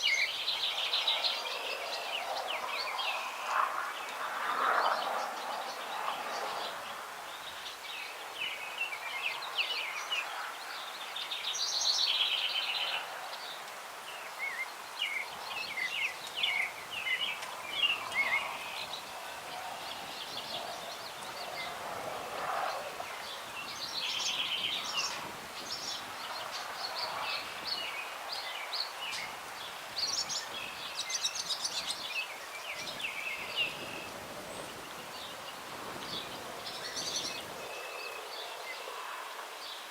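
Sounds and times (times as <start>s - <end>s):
light breeze in branches: 0.0s - 39.9s
songbirds singing and chirping: 0.0s - 39.9s.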